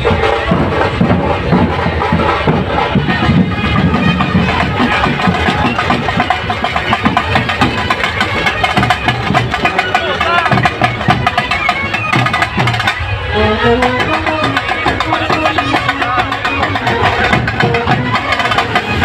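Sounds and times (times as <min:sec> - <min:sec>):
steady drumming: 0:00.0 - 0:19.0
trumpets: 0:00.0 - 0:19.0.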